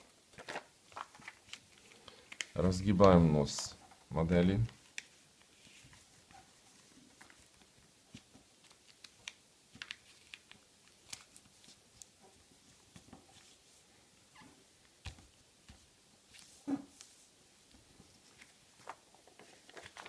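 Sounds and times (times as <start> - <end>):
paper rustling: 0.3 - 13.8, 15.0 - 20.0.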